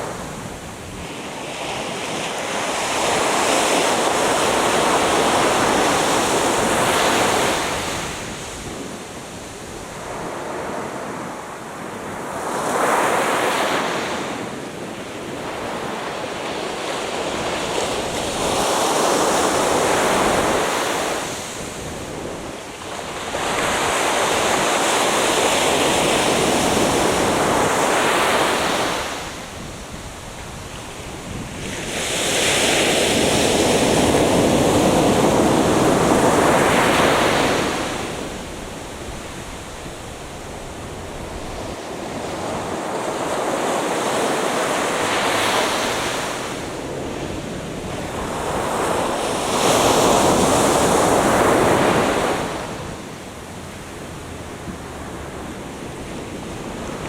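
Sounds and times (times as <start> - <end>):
surf breaking on a beach: 0.0 - 57.0.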